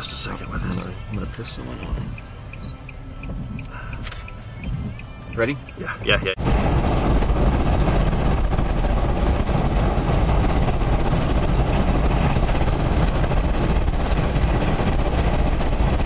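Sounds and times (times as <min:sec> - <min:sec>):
rain hitting windshield: 0:00.0 - 0:16.0
wind and road rumble: 0:00.0 - 0:16.0.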